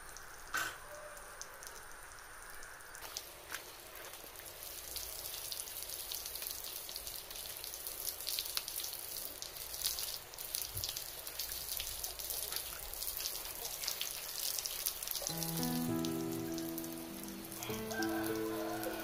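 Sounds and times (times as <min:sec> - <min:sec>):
fountain water spraying and splashing: 0:03.0 - 0:19.0.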